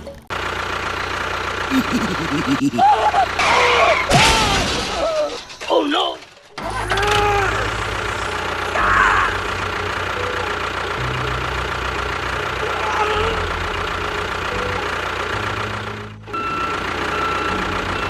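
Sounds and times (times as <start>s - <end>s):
engine knocking chug: 0.0s - 18.0s.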